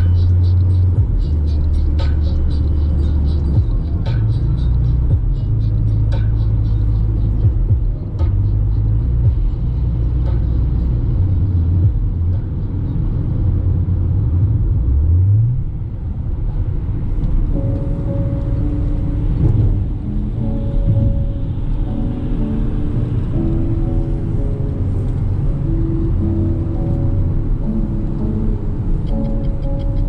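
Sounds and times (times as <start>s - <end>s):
road rumble: 0.0s - 30.0s
van engine drone: 0.0s - 30.0s.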